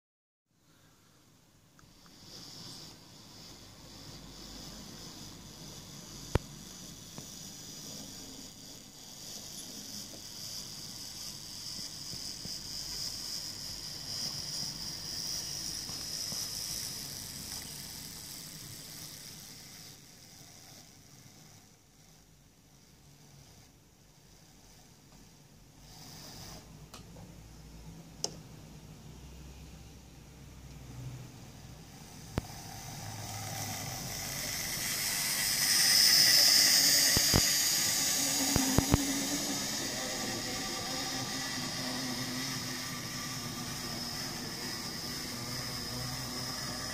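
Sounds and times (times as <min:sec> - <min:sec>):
electric motor whine: 0:02.0 - 0:25.2, 0:31.0 - 0:46.9
model train wheel rumble: 0:02.0 - 0:26.8, 0:31.5 - 0:46.9.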